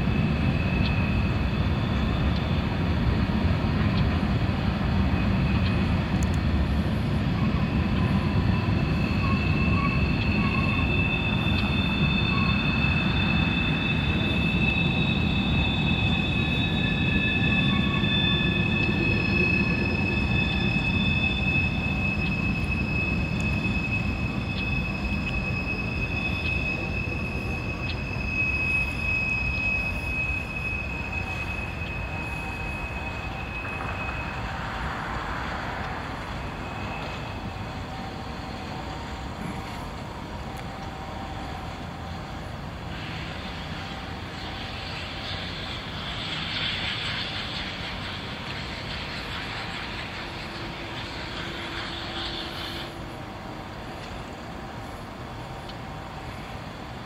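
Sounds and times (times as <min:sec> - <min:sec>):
low rumble of train: 0:00.0 - 0:57.0
train wheels squealing: 0:00.0 - 0:57.0.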